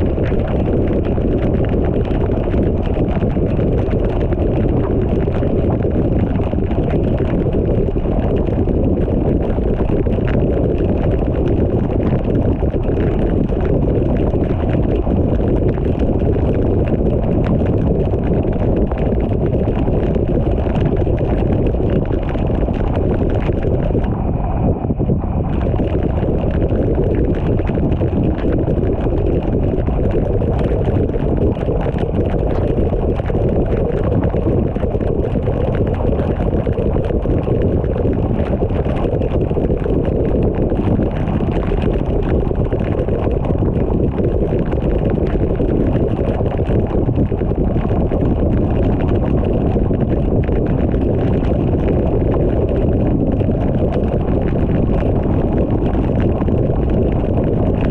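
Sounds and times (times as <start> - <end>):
rain pattering on car: 0.0 - 24.1, 25.5 - 57.9.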